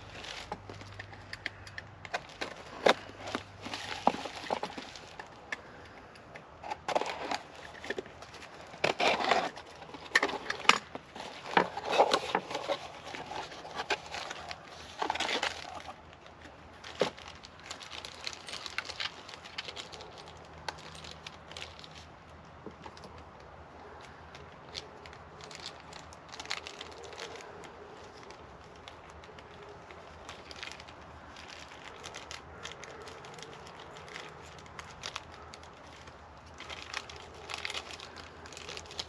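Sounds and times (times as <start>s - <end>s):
packaging crinkling and rustling: 0.0s - 39.0s.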